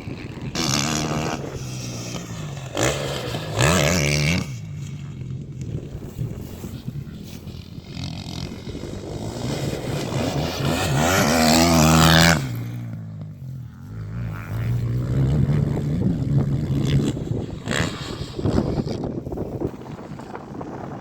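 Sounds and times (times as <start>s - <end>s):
motocross motorcycle engine revving: 0.0s - 21.0s.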